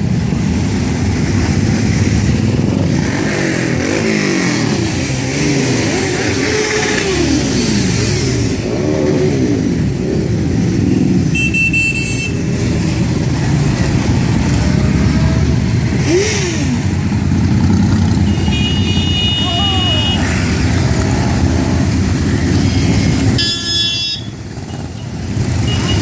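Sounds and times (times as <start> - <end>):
motorcycles passing by: 0.0 - 26.0.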